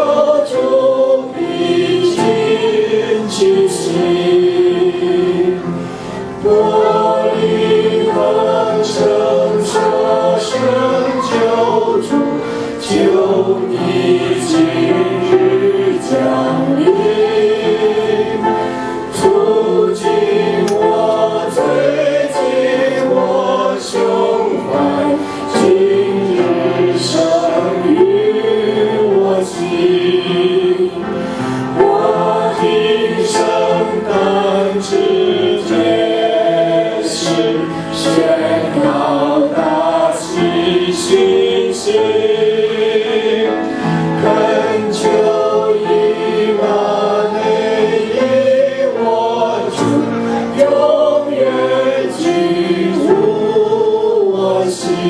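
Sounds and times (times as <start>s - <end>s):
group singing a carol: 0.0s - 55.0s.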